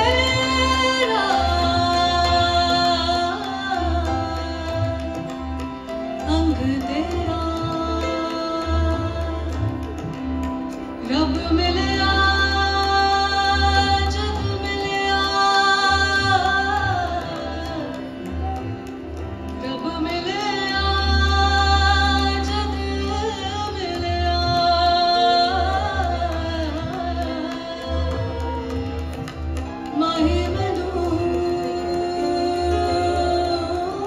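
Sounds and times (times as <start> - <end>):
woman singing: 0.0 - 10.4, 11.0 - 18.8, 19.5 - 34.0
harmonium tones: 0.0 - 34.0.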